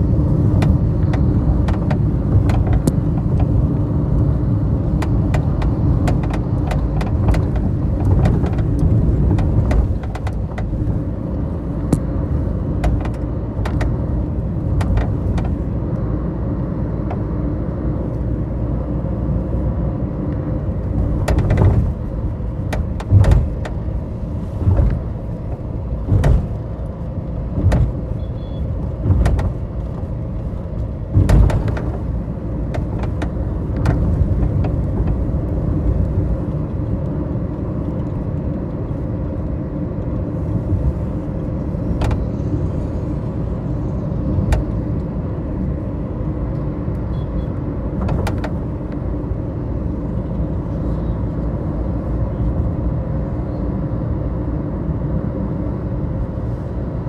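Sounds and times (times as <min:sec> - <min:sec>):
vehicle engine and tyre rumble: 0:00.0 - 0:57.0.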